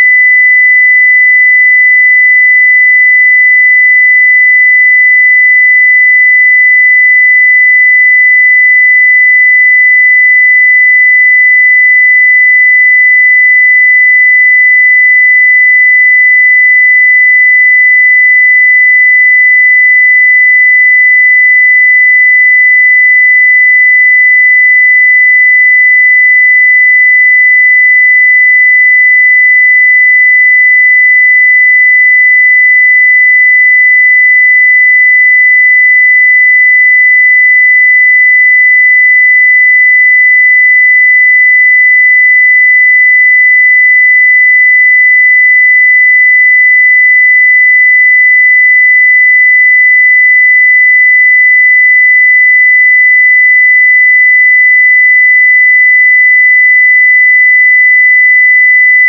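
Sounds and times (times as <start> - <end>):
sine-wave test tone: 0.0 - 59.0.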